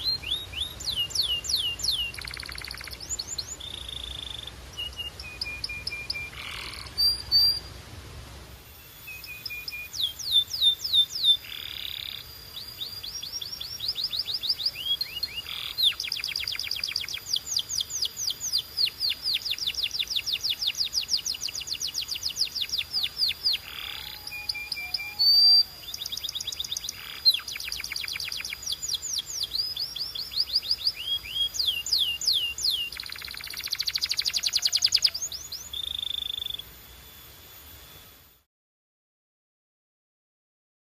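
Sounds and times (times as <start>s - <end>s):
canary singing trills: 0.0s - 7.7s, 8.7s - 38.1s.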